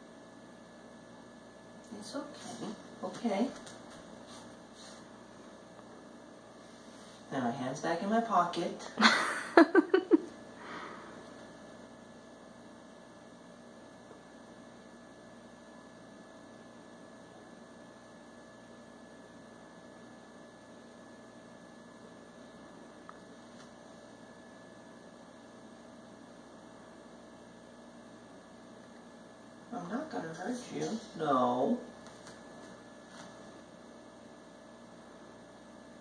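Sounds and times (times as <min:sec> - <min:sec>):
steady electrical hum: 0:00.0 - 0:36.0.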